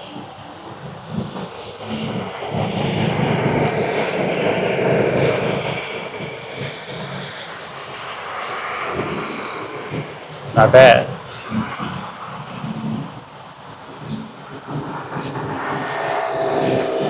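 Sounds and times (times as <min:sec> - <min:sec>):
airplane passing overhead: 0:00.0 - 0:17.0.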